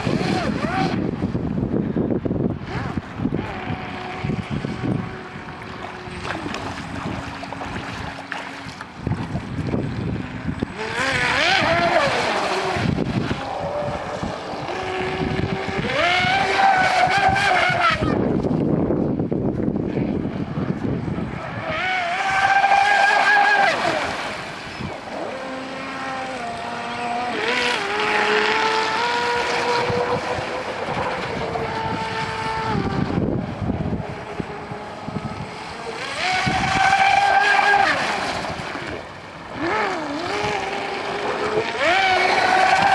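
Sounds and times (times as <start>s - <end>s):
electric motor whine: 0.0s - 42.9s.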